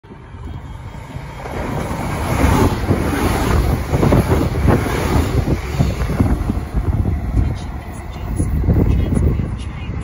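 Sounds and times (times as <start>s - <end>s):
electric train passing: 0.1s - 10.0s.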